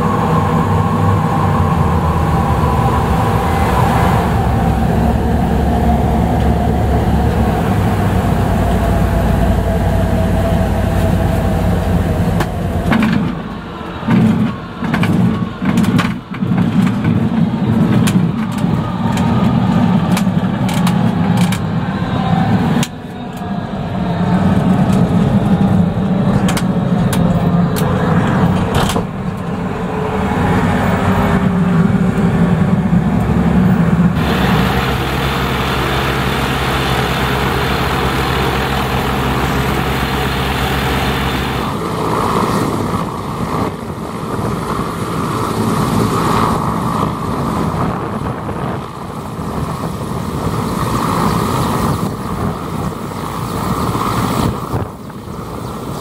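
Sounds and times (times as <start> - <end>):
seaplane engine droning: 0.0 - 56.0.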